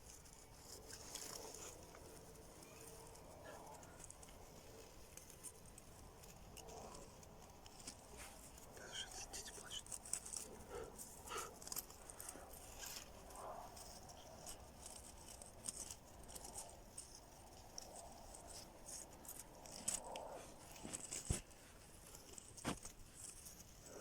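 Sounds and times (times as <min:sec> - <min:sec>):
clicks and scratching on metal: 0:00.0 - 0:24.0.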